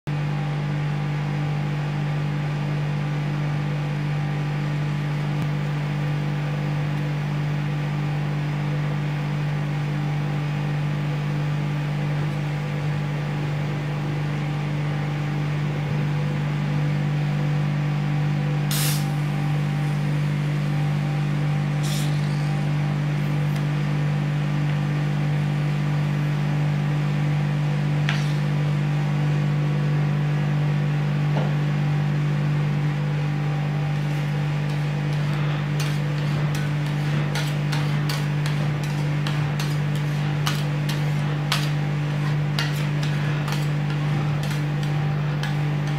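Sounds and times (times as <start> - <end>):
compressor humming: 0.1 - 45.9.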